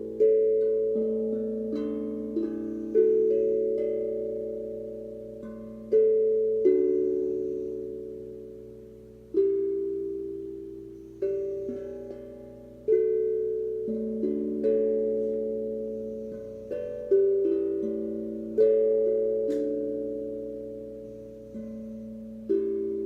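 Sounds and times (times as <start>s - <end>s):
steel tongue drum notes ringing: 0.0s - 23.0s.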